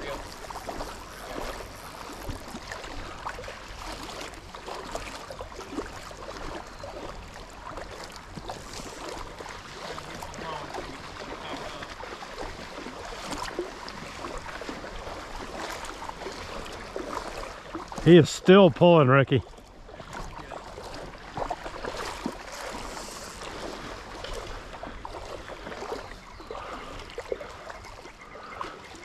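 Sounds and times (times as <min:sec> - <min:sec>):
river water rippling: 0:00.0 - 0:29.0
small splashes: 0:00.0 - 0:29.0.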